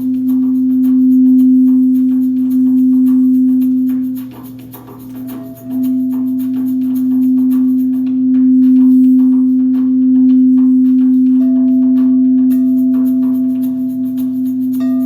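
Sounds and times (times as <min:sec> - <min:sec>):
hand percussion ticks: 0:00.0 - 0:15.0
singing bowl tone: 0:00.0 - 0:15.0.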